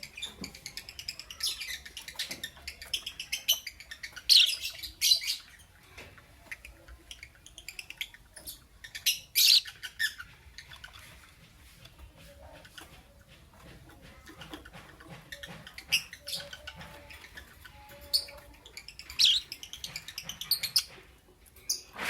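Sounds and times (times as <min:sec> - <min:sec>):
lovebird chirping: 0:00.0 - 0:11.2, 0:14.4 - 0:21.0.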